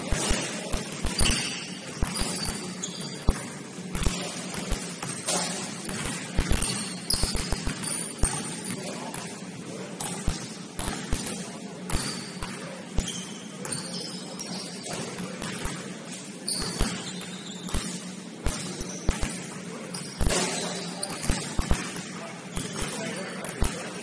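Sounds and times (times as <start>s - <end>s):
basketball bouncing on gym floor: 0.0s - 9.4s, 10.0s - 24.0s
sneakers squeaking: 0.0s - 24.0s
steady low hum: 0.0s - 24.0s.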